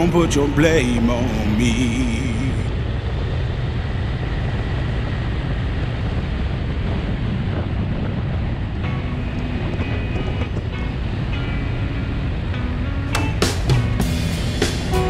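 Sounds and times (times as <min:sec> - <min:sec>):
motorcycle engine drone: 0:00.0 - 0:15.0
wind rushing over microphone: 0:00.0 - 0:15.0.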